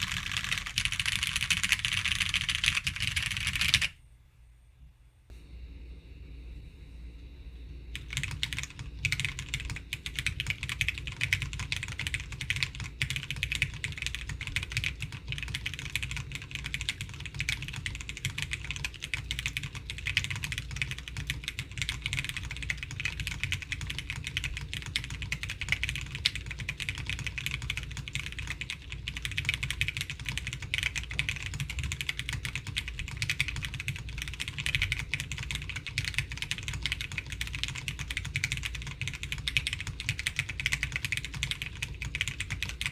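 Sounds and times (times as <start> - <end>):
mechanical keyboard typing: 0.0 - 3.9, 8.0 - 42.9.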